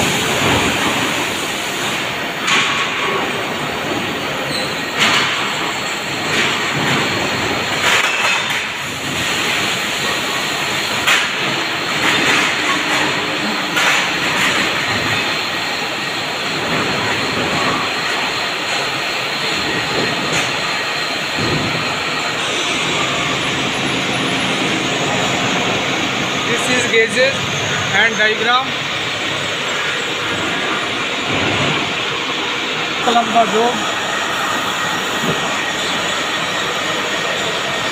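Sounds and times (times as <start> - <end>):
lathe and workshop machinery running: 0.0 - 37.9.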